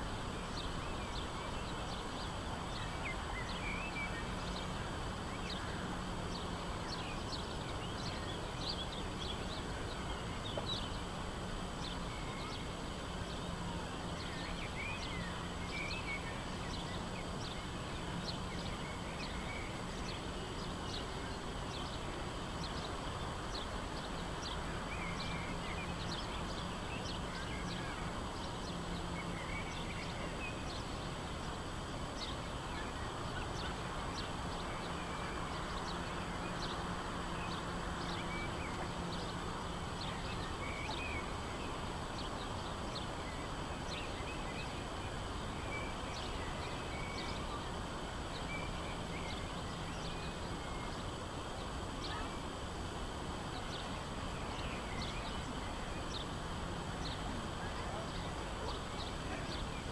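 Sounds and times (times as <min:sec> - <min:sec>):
background noise: 0:00.0 - 0:59.9.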